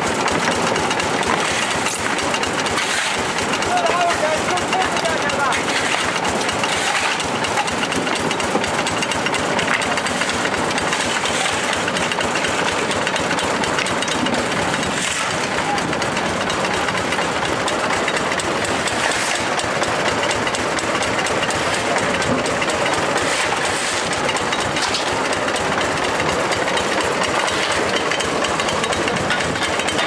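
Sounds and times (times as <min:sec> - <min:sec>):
excavator engine running: 0:00.0 - 0:30.0
rapid mechanical clatter: 0:00.0 - 0:30.0.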